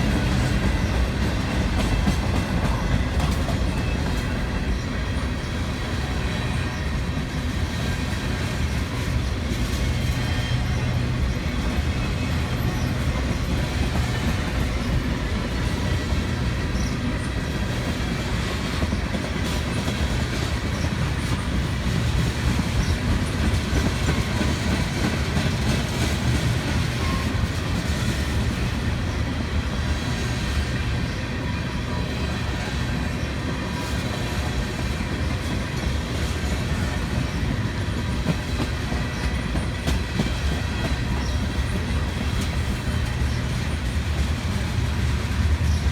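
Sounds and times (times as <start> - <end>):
freight train rumbling past: 0.0 - 45.9
wheels clacking over rail joints: 0.0 - 45.9.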